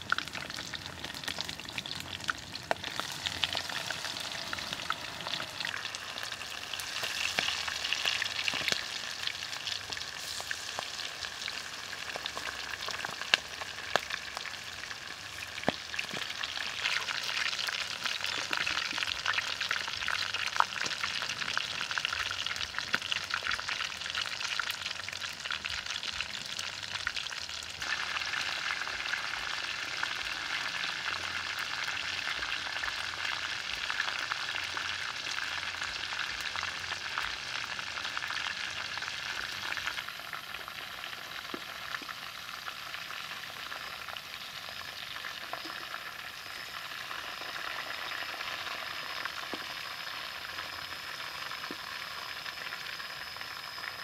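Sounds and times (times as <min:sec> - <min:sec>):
deep-frying oil sizzling and crackling: 0:00.0 - 0:54.0.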